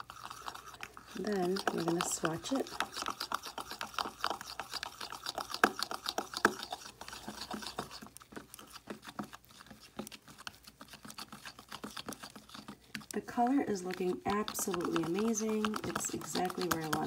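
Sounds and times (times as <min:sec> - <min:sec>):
spatula scraping plastic cup: 0:00.0 - 0:17.0.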